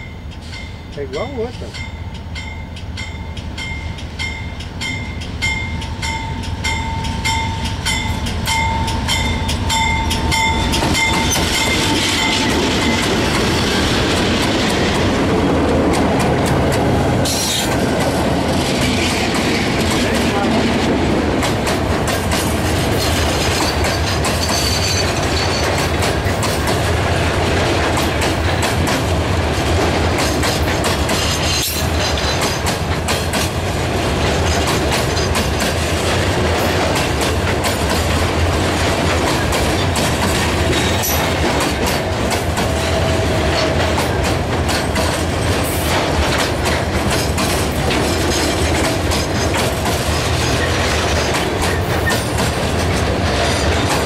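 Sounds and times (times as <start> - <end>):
freight train wheels rumbling: 0.0 - 54.0
wheels clacking over rail joints: 5.4 - 54.0.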